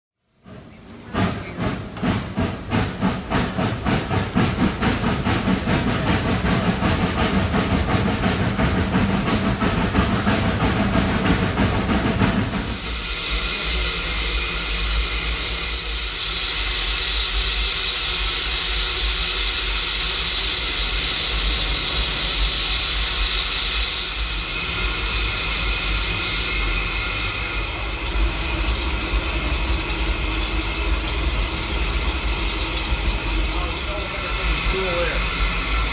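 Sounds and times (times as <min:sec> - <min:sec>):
steam locomotive exhaust chuffing: 0:00.2 - 0:35.9
steam hissing: 0:00.3 - 0:35.9.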